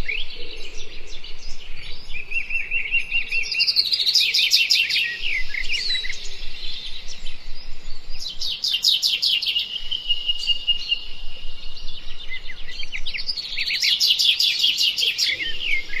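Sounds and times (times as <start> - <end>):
birds chirping trills: 0.0 - 16.0.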